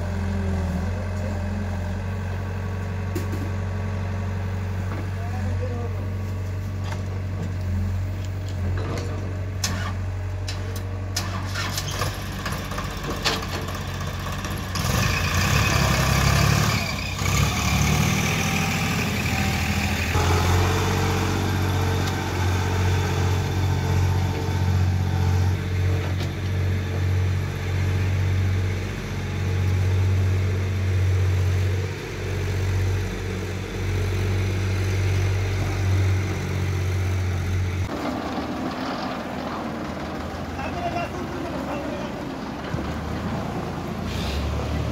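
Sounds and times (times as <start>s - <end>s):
diesel engines throbbing: 0.0s - 44.9s.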